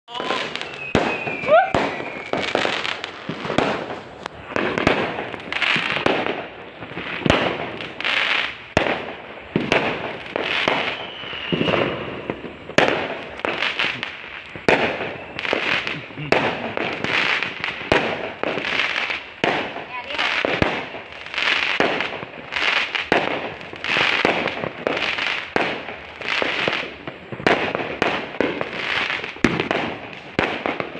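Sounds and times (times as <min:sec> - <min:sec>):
fireworks bangs: 0:00.1 - 0:30.9
fireworks crackling: 0:00.1 - 0:30.9
fireworks whistling: 0:00.1 - 0:30.9.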